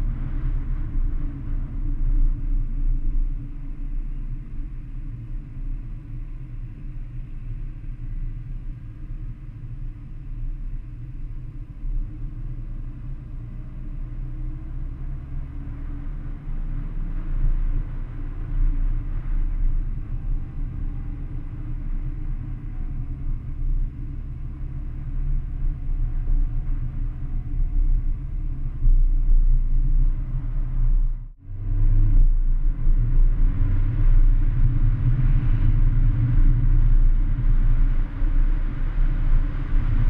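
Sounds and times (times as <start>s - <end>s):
car engine and exhaust: 0.0s - 40.0s
low road rumble: 0.0s - 40.0s
wind noise on microphone: 0.0s - 40.0s.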